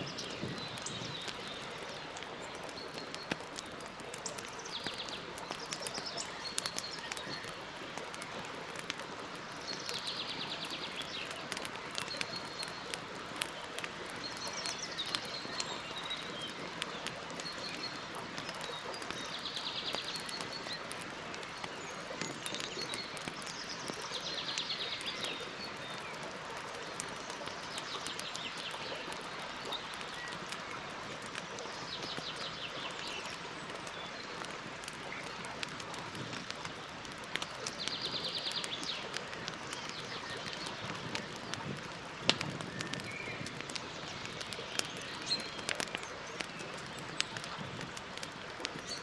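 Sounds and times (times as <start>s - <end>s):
campfire crackling: 0.0s - 49.0s
songbirds calling: 0.0s - 49.0s.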